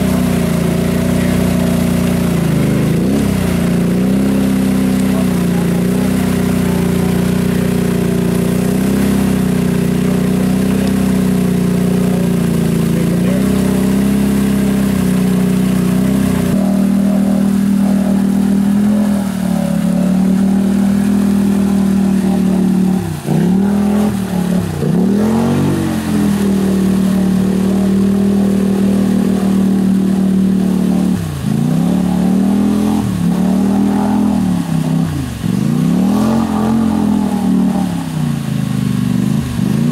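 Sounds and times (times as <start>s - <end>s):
atv engine revving: 0.0s - 39.9s
second quad engine revving: 0.0s - 39.9s.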